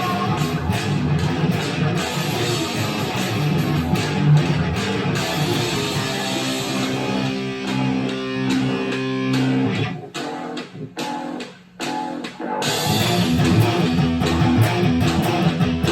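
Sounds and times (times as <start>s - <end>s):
electric guitar metal riff: 0.0s - 15.9s.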